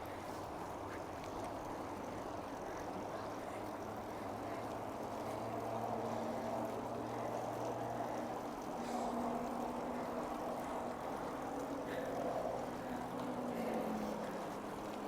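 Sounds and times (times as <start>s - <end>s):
highway traffic rumble: 0.0s - 15.0s
vehicle passing drone: 2.0s - 15.0s.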